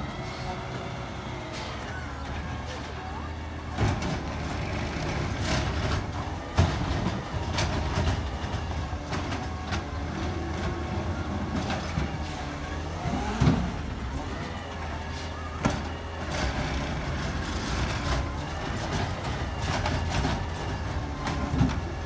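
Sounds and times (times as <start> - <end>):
diesel truck engine humming: 0.0 - 22.0.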